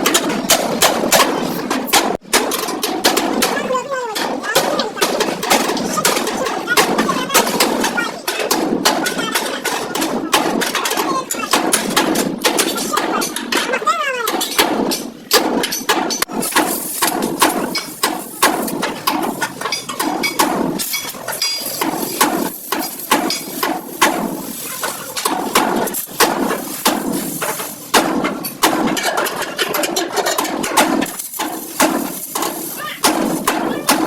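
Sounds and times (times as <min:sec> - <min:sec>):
hammer striking sheet metal: 0:00.0 - 0:34.0.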